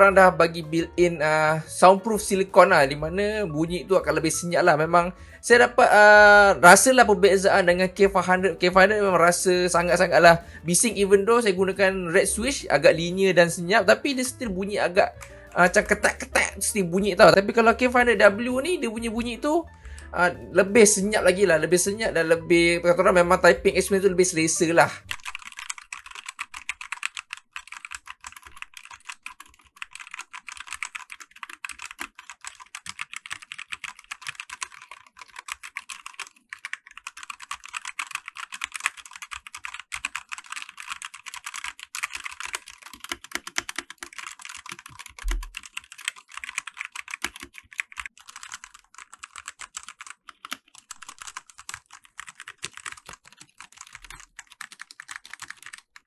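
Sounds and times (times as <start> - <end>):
fast typing on mechanical keyboard: 4.3 - 16.5, 20.8 - 56.0.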